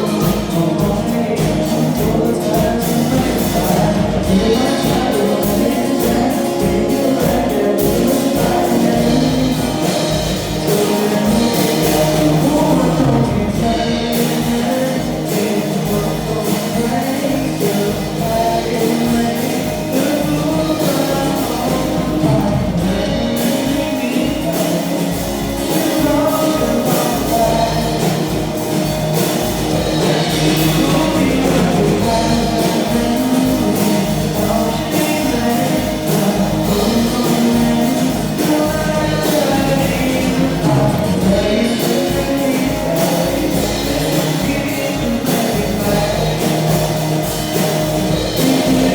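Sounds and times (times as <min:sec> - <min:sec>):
person singing: 0:00.0 - 0:48.9
rock band playing: 0:00.0 - 0:48.9.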